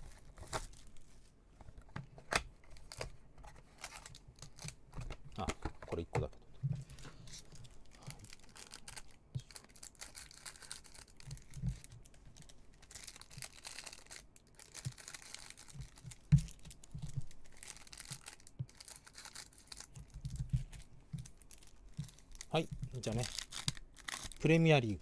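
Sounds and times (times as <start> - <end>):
plastic wrapper crinkling and tearing: 0.0 - 1.1, 2.3 - 6.0, 6.9 - 25.0.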